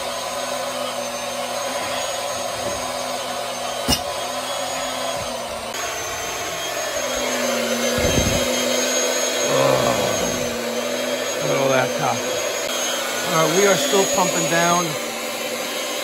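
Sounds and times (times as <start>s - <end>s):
electric pump running: 0.0s - 16.0s.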